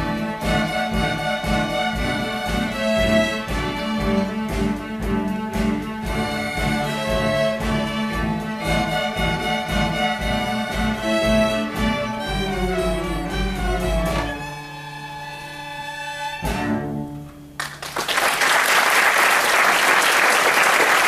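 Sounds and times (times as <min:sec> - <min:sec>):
string orchestra playing: 0:00.0 - 0:17.6.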